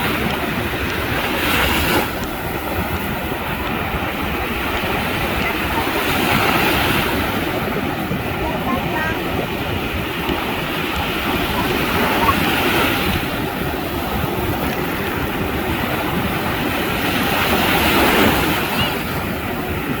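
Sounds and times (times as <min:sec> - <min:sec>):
storm surf waves breaking: 0:00.0 - 0:20.0.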